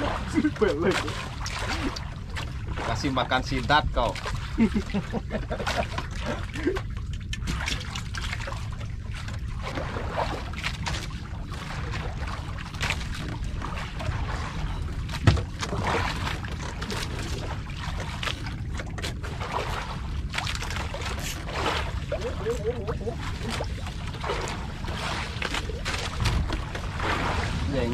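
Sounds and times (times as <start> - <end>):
low rumble: 0.0 - 27.9
water lapping against boat hull: 0.0 - 27.9.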